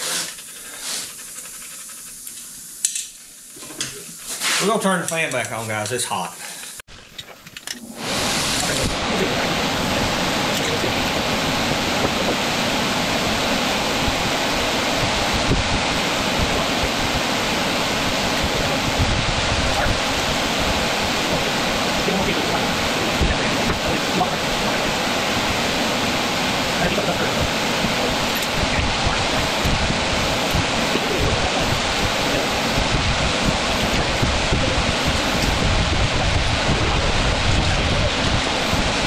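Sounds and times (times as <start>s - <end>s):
electric fan running: 0.0s - 39.0s.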